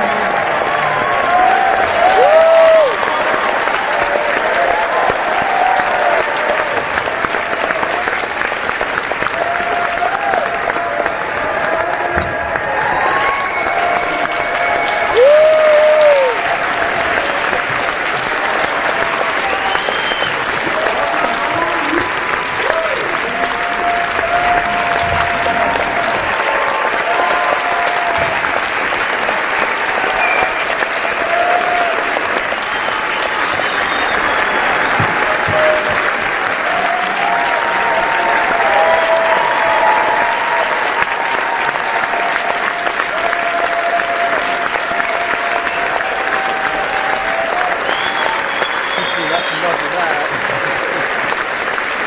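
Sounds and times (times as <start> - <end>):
crowd applauding: 0.0 - 52.0
crowd cheering: 0.0 - 52.0.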